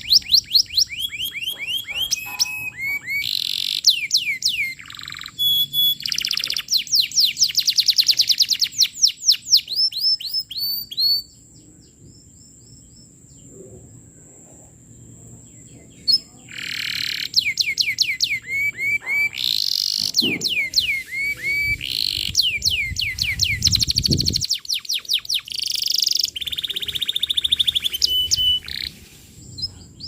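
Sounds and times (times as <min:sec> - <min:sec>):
canary singing: 0:00.0 - 0:11.5, 0:15.6 - 0:30.0.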